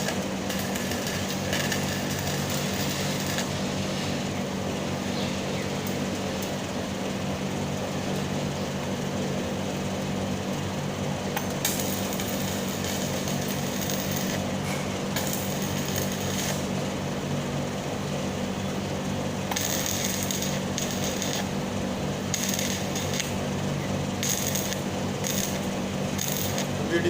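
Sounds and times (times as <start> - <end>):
welding arc crackling and sizzling: 0.0 - 6.7, 9.8 - 17.4, 18.2 - 27.0
welding machine hum: 0.0 - 27.0.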